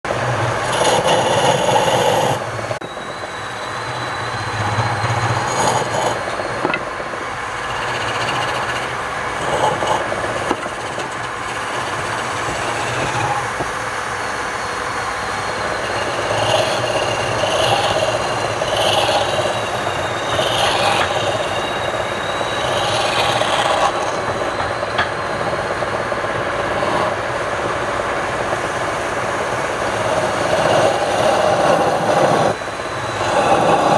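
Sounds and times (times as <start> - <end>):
wood lathe cutting with whine: 0.1 - 33.9.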